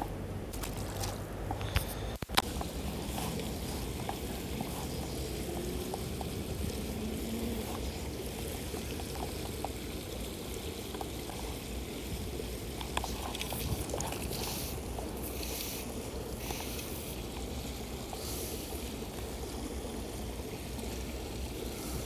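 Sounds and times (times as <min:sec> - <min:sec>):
creek water flowing: 0:00.0 - 0:22.0.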